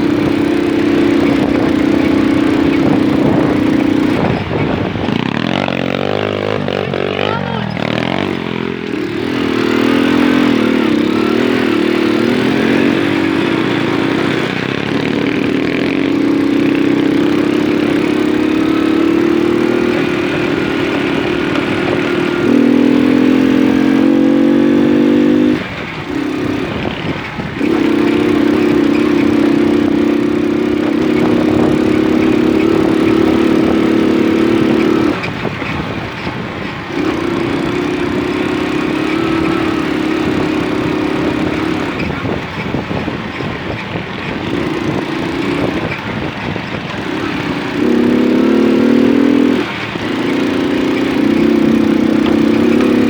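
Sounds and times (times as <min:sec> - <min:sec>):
moped engine running: 0:00.0 - 0:53.0.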